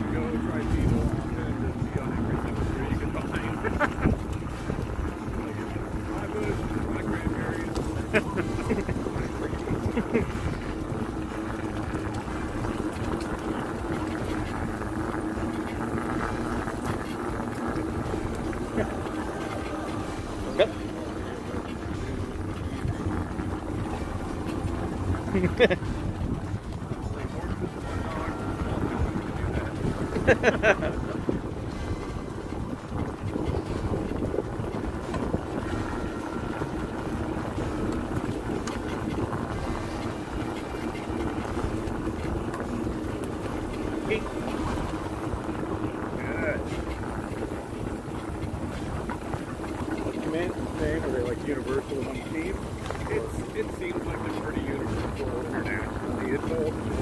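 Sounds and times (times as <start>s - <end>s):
faint constant hum: 0.0s - 57.0s
sled rolling on dirt trail: 0.0s - 57.0s
wind on microphone: 0.0s - 57.0s.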